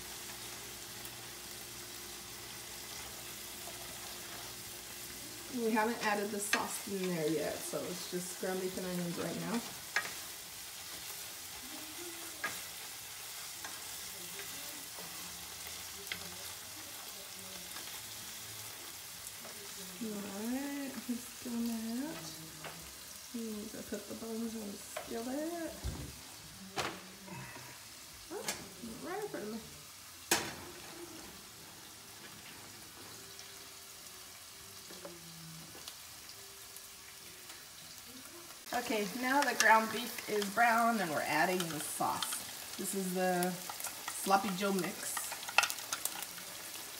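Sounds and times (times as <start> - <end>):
meat and onions sizzling: 0.0 - 46.9.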